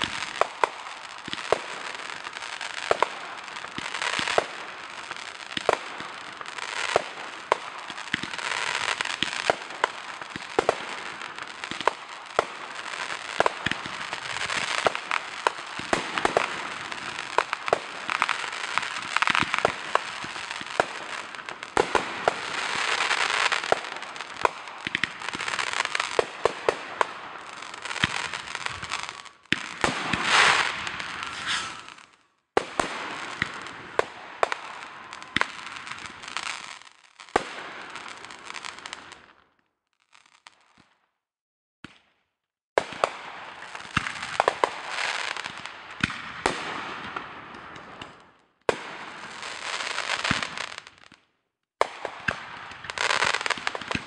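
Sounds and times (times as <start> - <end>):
firework crackling: 0.0 - 39.4, 42.8 - 51.2, 51.8 - 54.0
firework bangs and pops: 0.0 - 41.1, 41.8 - 54.0.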